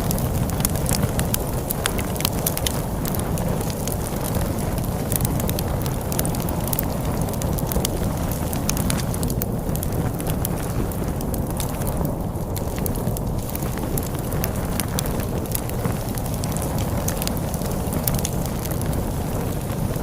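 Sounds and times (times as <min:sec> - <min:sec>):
wind rumble: 0:00.0 - 0:20.0
wood fire crackling and popping: 0:00.0 - 0:20.0.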